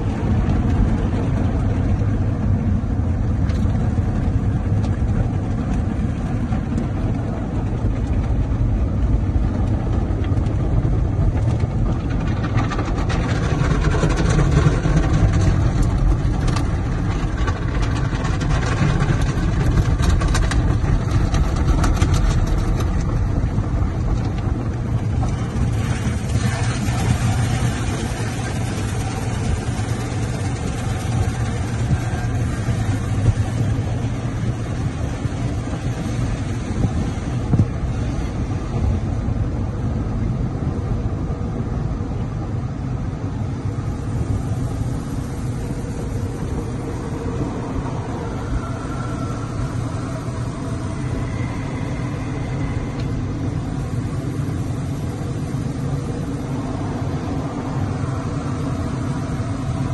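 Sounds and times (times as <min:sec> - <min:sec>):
car wash machinery rumble: 0:00.0 - 0:59.9.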